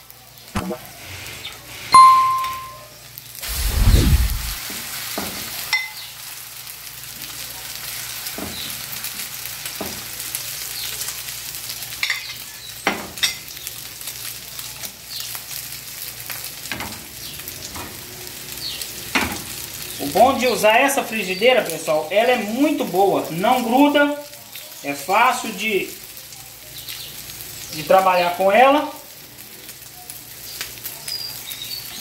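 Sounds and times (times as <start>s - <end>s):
egg batter sizzling in a pan: 0.0s - 32.0s.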